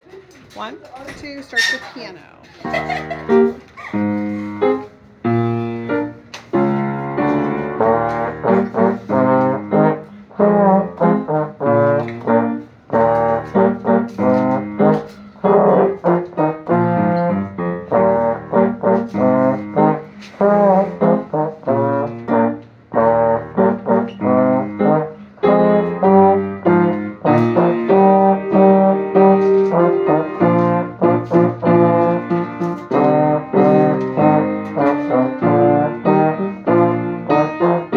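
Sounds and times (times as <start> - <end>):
piano accompaniment: 0.0 - 37.9
trombone melody: 2.6 - 37.9.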